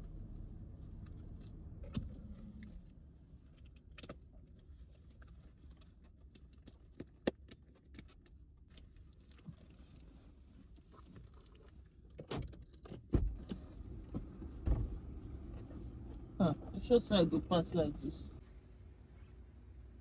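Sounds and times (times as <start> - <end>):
low steady hum: 0.0 - 12.2, 13.1 - 20.0.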